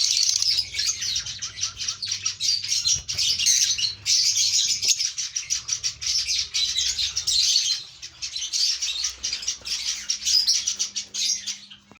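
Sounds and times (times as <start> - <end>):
flock of birds chattering: 0.0 - 12.0.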